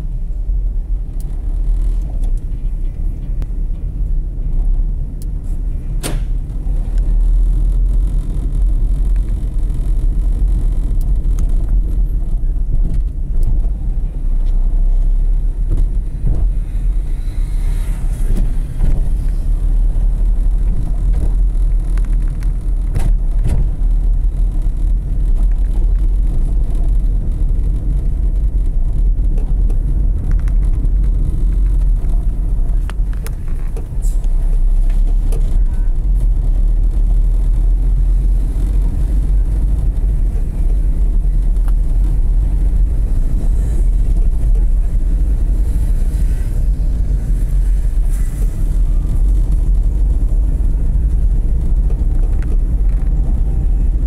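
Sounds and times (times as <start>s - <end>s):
vehicle rumble driving: 0.0s - 54.0s.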